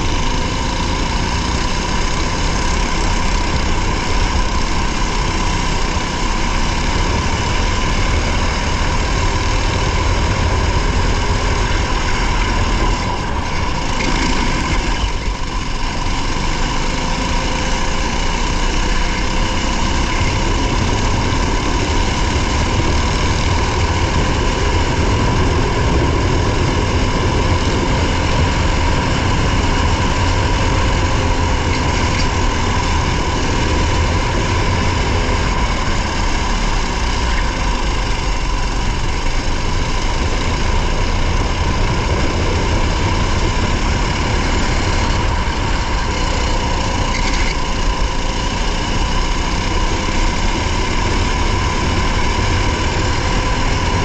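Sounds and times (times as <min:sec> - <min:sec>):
race car engine running hard: 0:00.0 - 0:54.0
road and wind noise: 0:00.0 - 0:54.0.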